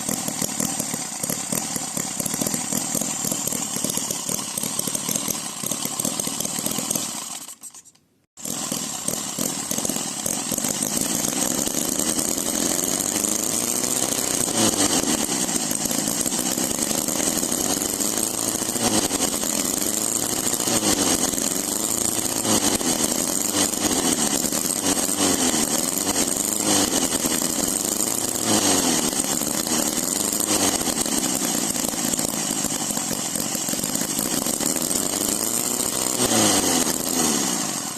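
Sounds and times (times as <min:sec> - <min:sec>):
model engine revving: 0:00.0 - 0:37.9.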